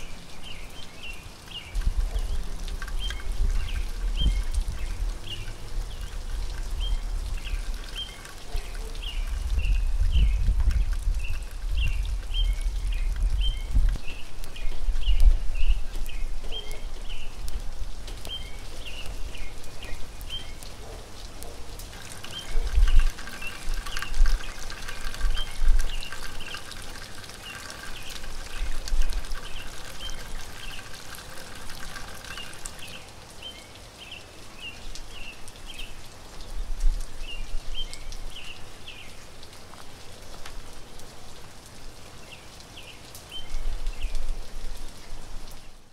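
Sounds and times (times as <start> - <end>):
small birds chirping: 0.0 - 41.1, 42.1 - 45.9
rainwater dripping and trickling: 0.0 - 45.9.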